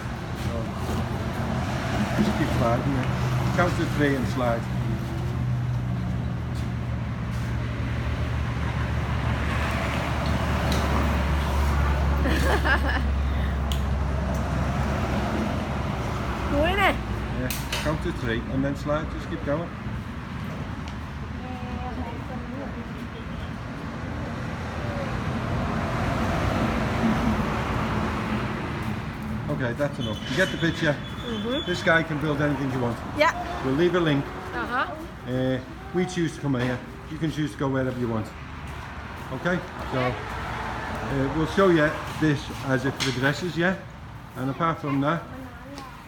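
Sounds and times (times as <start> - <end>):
road vehicle passing: 0.0 - 46.0
traffic engine rumble: 0.0 - 46.0.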